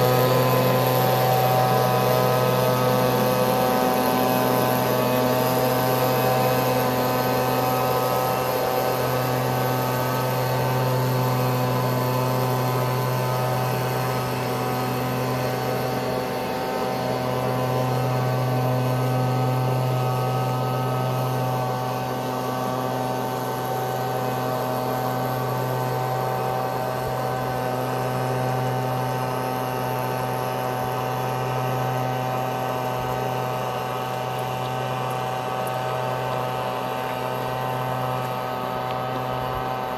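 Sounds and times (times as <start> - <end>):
leaf blower engine droning: 0.0 - 39.9.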